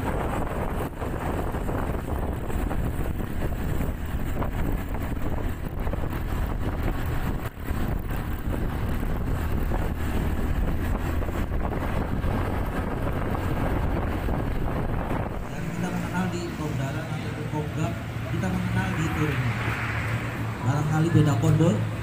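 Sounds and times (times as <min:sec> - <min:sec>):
motorcycle engine: 0:00.0 - 0:22.0
road noise: 0:00.0 - 0:22.0
wind rushing over microphone: 0:00.0 - 0:22.0.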